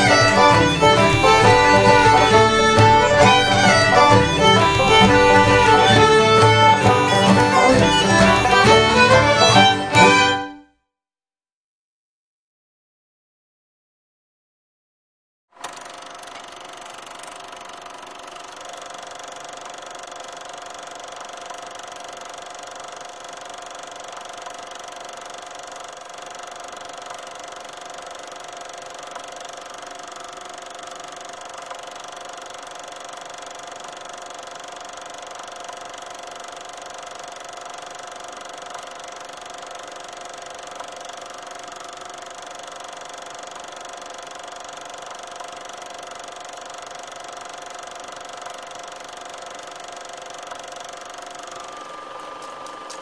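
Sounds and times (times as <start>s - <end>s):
machine motor humming: 0.0s - 10.4s, 15.6s - 53.0s.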